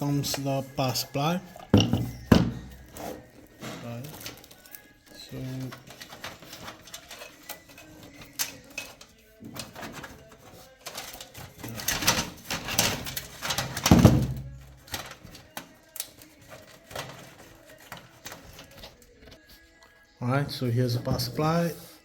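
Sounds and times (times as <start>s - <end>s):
clatter of handling and scraping: 1.5s - 19.6s.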